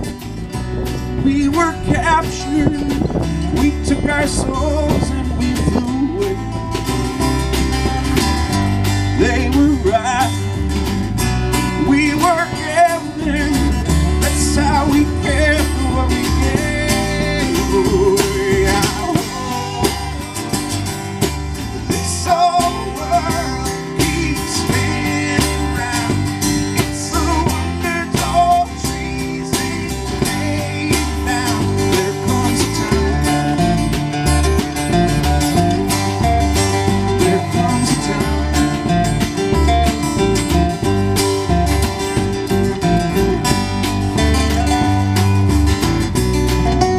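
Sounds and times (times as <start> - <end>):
acoustic guitar: 0.0 - 46.9
drum kit: 0.0 - 46.9
resonator guitar: 0.0 - 46.9
upright bass: 0.0 - 46.9.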